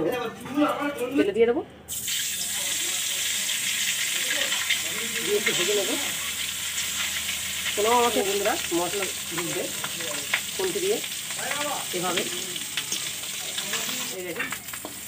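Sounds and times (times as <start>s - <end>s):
eggs sizzling in hot oil: 1.9s - 15.0s.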